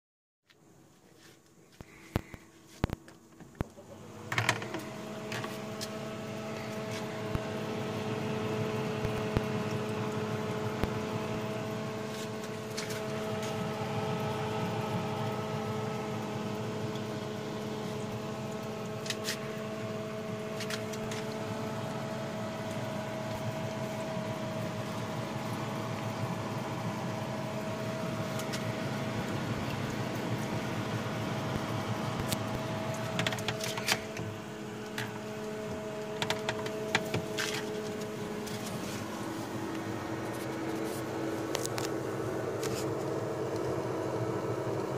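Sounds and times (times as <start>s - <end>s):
small fan motor humming: 1.2s - 44.9s.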